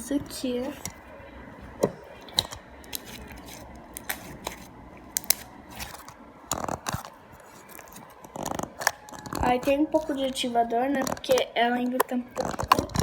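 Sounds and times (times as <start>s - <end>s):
slime squelching: 1.7s - 13.0s.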